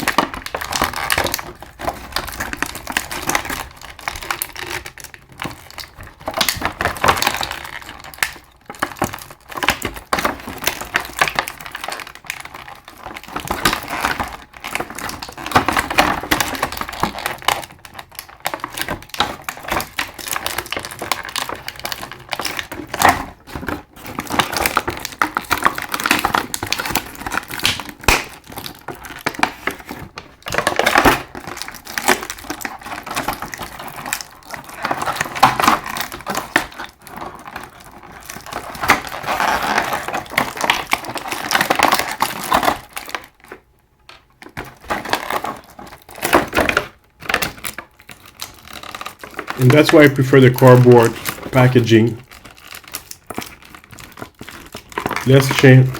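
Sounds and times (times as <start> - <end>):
plastic packaging crinkling: 0.0 - 55.9.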